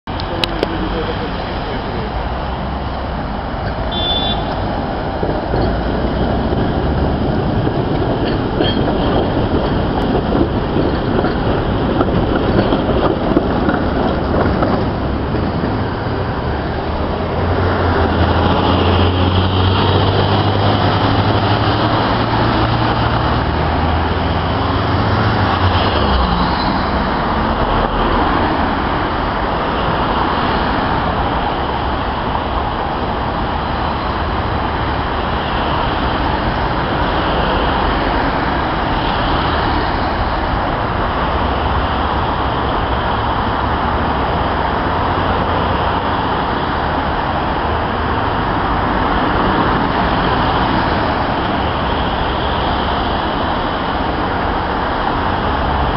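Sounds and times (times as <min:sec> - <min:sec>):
cars driving past: 0:00.1 - 0:55.9
tram rolling: 0:00.1 - 0:55.9.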